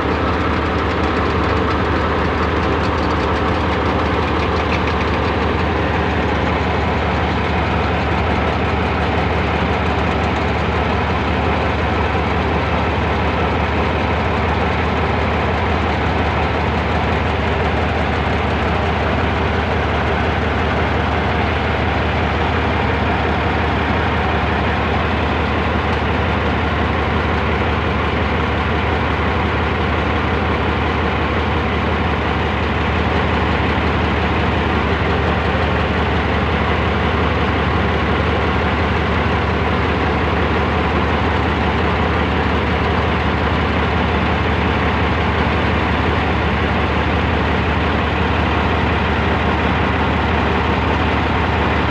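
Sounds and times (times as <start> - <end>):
diesel engine humming: 0.0 - 51.9.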